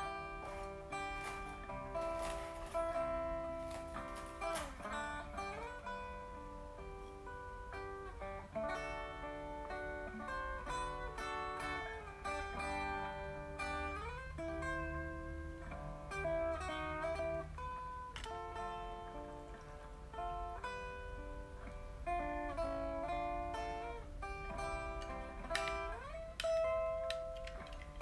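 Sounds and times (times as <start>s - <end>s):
acoustic guitar plucked melody: 0.0s - 28.0s.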